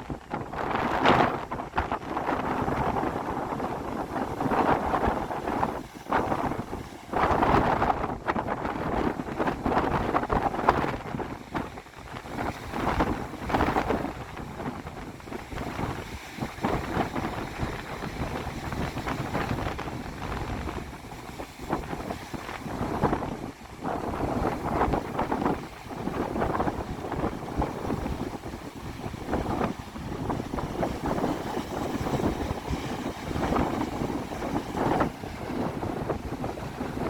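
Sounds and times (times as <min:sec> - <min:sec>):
strong wind gusting on microphone: 0:00.0 - 0:37.0.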